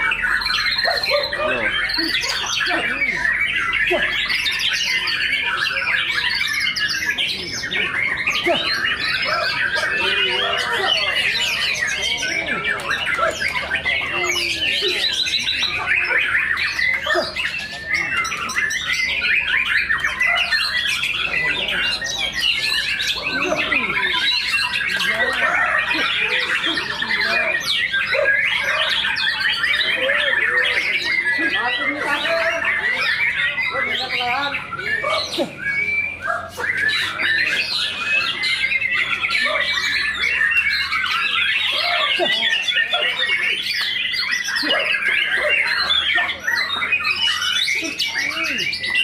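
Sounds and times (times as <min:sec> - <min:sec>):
people shouting and chattering: 0:00.0 - 0:49.0
songbirds chorus of chirps: 0:00.0 - 0:49.0.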